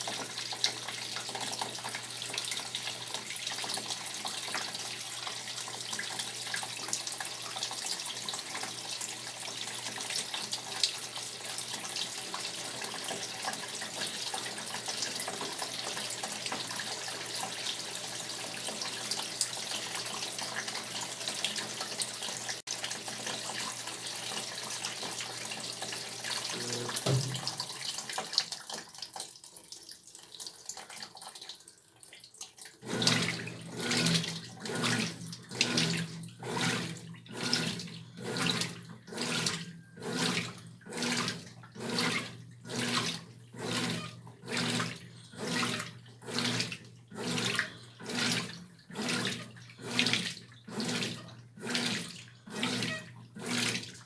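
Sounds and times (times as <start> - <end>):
water pouring into washing machine: 0.0 - 54.0.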